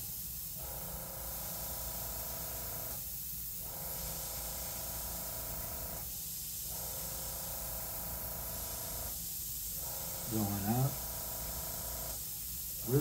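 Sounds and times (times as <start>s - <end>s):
airbrush spraying air hiss: 0.0s - 13.0s.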